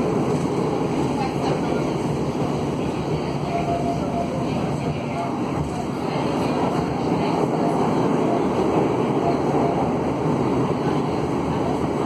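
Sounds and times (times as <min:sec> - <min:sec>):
metro train running noise: 0:00.0 - 0:12.0.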